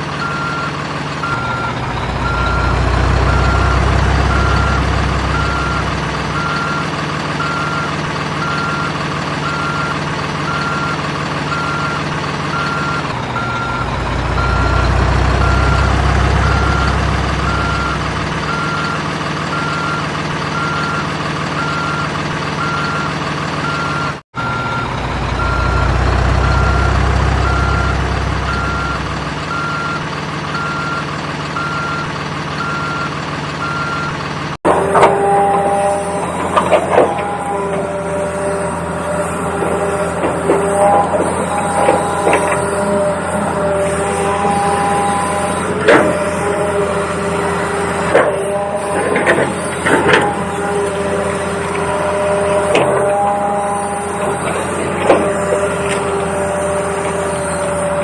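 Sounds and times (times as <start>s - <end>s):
simulated truck engine: 0.0s - 58.0s
pulsing reversing beep: 0.2s - 58.0s.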